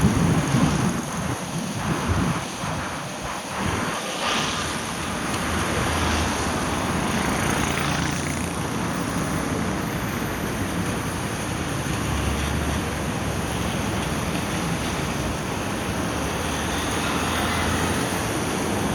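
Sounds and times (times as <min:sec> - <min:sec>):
rain: 0:00.0 - 0:18.9
tyres hissing on wet road: 0:00.0 - 0:18.9.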